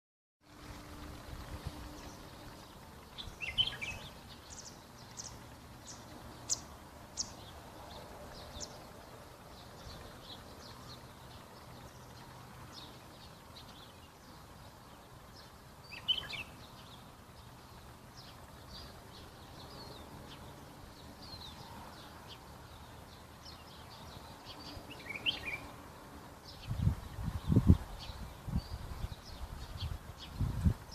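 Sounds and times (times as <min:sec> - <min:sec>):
faint steady background noise: 0:00.4 - 0:30.9
birds chirping: 0:00.8 - 0:30.9.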